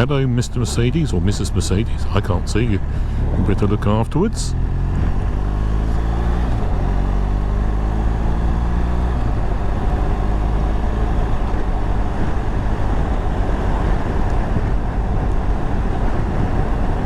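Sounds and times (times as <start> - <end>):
wind noise on microphone: 0.0 - 7.5, 8.3 - 17.0
motorcycle engine running: 0.0 - 17.0.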